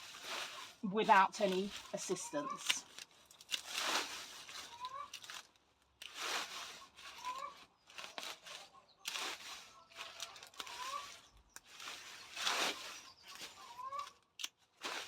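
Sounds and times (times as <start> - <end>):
plant stems rustling and tearing: 0.0 - 15.0.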